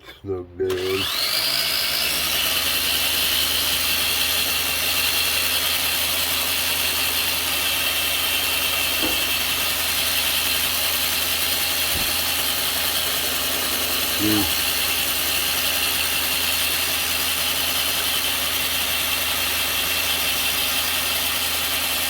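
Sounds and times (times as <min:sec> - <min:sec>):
electric motor and gears whining: 0:00.6 - 0:22.0.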